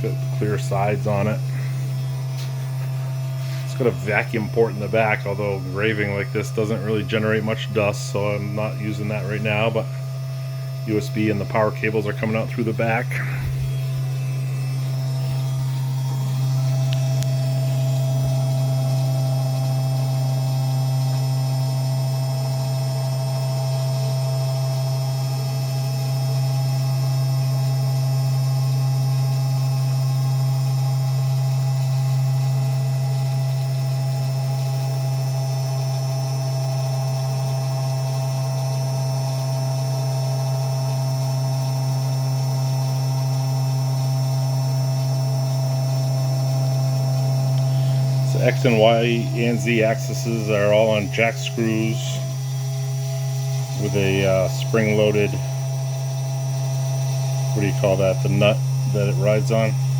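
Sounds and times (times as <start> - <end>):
cnc engraver humming and whining: 0.0 - 59.9.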